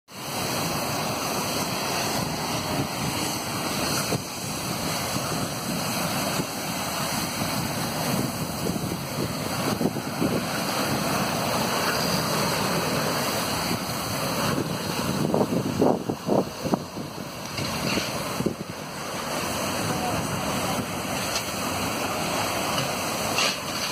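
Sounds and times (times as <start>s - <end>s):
fire burning: 0.1s - 23.9s
fire hose spray hissing: 0.1s - 23.9s.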